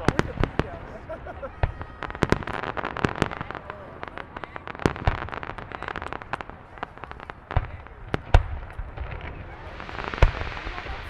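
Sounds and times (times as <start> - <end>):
firework shells booming: 0.0 - 11.0
fireworks crackling: 0.0 - 11.0.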